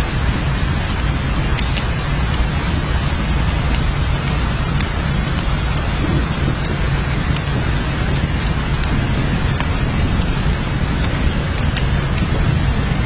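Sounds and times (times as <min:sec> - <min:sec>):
heavy rain: 0:00.0 - 0:13.0
rain drops ticking: 0:00.0 - 0:13.0.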